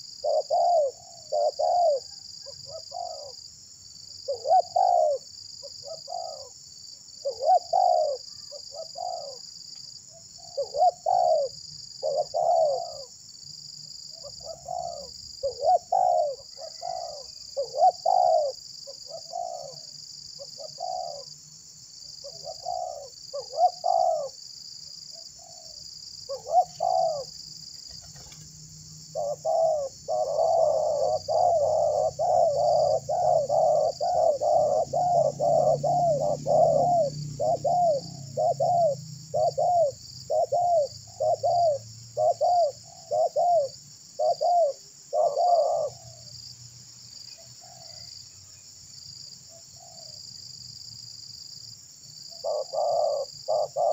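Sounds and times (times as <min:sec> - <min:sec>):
doves cooing: 0:00.0 - 0:03.4, 0:04.3 - 0:06.6, 0:07.2 - 0:09.5, 0:10.1 - 0:13.1, 0:14.2 - 0:21.4, 0:22.2 - 0:24.4, 0:25.1 - 0:28.5, 0:29.1 - 0:46.3, 0:47.3 - 0:48.1, 0:52.3 - 0:53.9.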